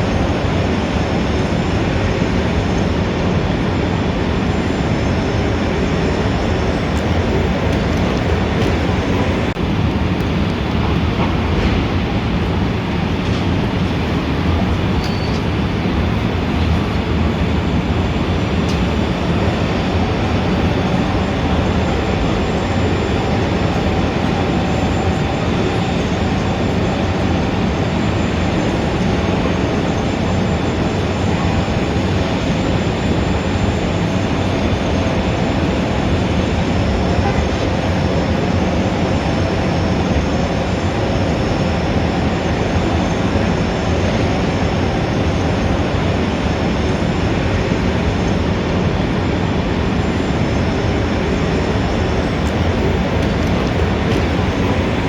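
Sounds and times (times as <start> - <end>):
city traffic din: 0.0 - 55.0.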